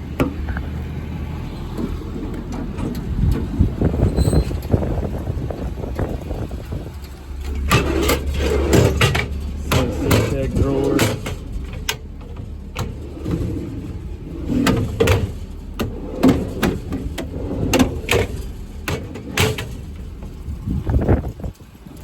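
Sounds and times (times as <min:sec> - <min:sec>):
metal drawers clanking: 0:00.0 - 0:21.5
low steady rumble: 0:00.0 - 0:22.0.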